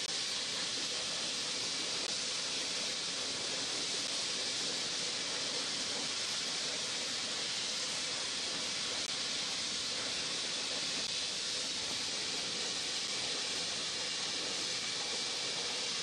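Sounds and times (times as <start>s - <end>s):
airport apron hiss: 0.0s - 16.0s.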